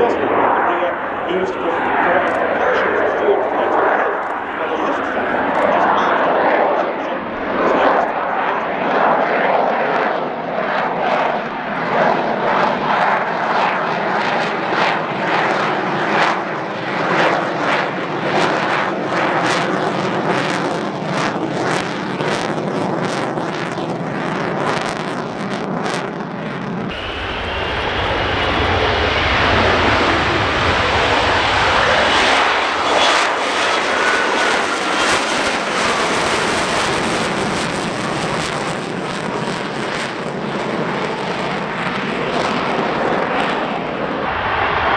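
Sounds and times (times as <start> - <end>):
jet engine roaring with crackles: 0.0 - 44.9.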